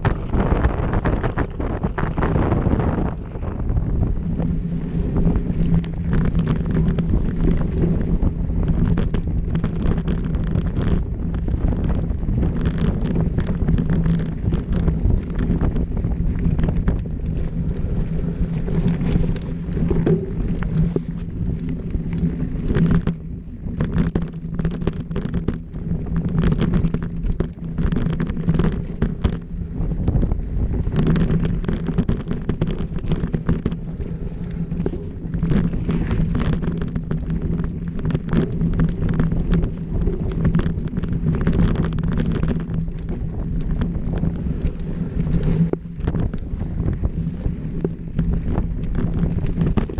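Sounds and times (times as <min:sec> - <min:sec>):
tyres rolling on dirt: 0:00.0 - 0:49.9
wind on microphone: 0:00.0 - 0:49.9.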